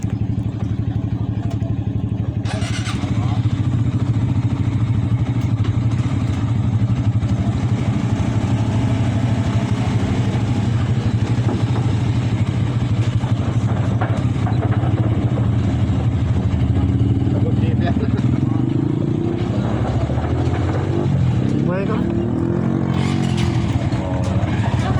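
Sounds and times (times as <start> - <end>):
road noise: 0.0 - 24.9
vehicle engine hum: 0.0 - 24.9.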